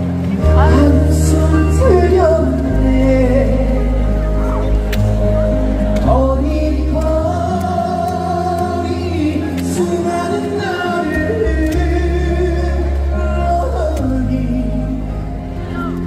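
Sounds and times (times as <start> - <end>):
backing music with bass line: 0.0 - 16.0
person singing long notes: 0.4 - 16.0.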